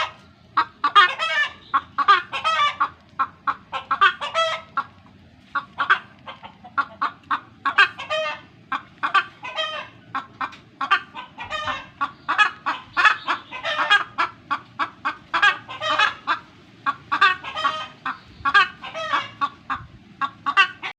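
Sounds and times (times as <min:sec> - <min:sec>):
chickens clucking and squawking: 0:00.0 - 0:20.9.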